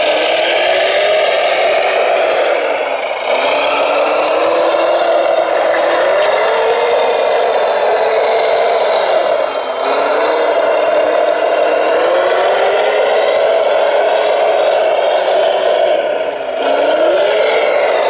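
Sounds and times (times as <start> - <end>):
model truck motor whining: 0.0 - 18.0.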